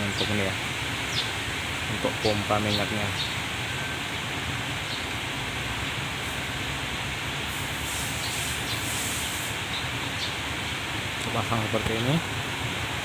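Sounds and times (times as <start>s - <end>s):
steady background rumble and hiss: 0.0s - 13.0s.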